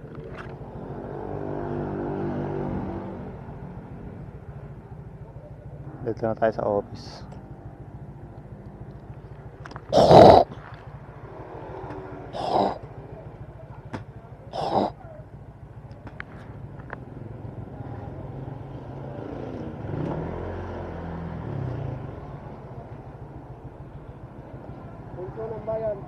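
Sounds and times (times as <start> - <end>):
motorcycle engine running: 0.0 - 20.0, 21.2 - 26.0.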